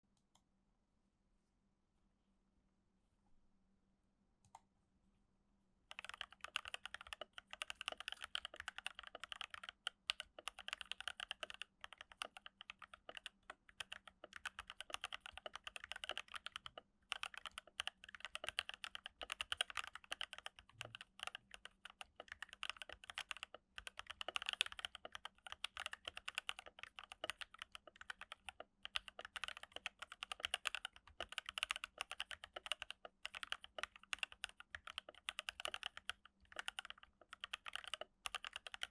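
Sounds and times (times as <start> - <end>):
mechanical keyboard typing: 5.9 - 38.9.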